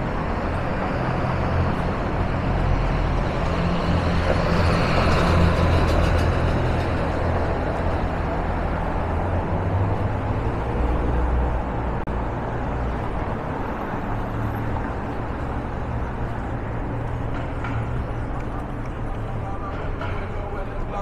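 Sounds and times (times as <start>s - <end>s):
road noise from passing cars: 0.0s - 21.0s.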